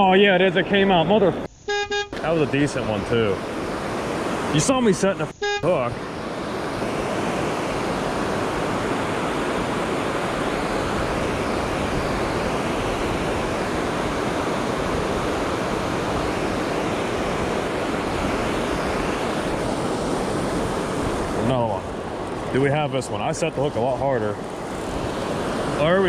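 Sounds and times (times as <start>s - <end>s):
river water rushing over falls: 2.2s - 5.2s, 5.9s - 26.0s.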